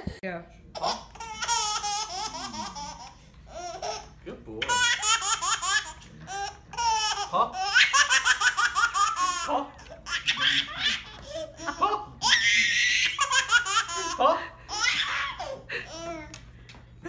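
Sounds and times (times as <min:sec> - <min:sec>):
baby laughing: 0:00.8 - 0:16.4.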